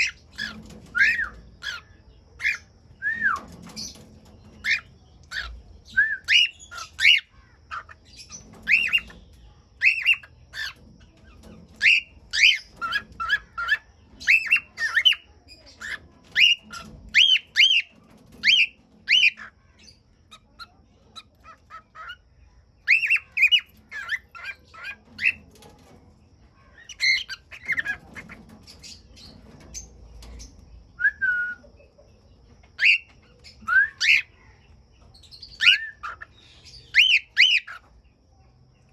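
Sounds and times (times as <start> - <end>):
cockatiels chirping and squawking: 0.0 - 26.0, 26.6 - 30.6, 32.6 - 34.3, 35.1 - 37.9.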